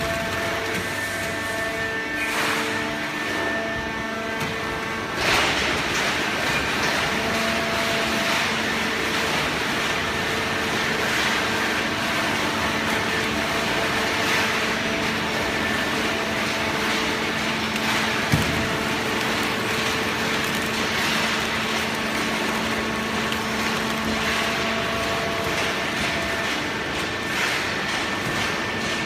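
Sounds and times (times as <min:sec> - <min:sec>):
hydraulic baler humming: 0:00.0 - 0:28.2.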